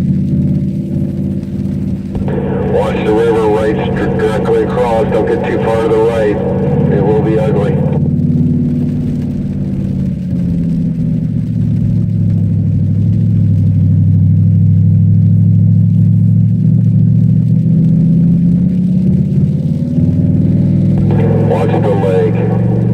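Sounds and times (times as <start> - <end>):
car engine drone from inside: 0.0 - 22.9.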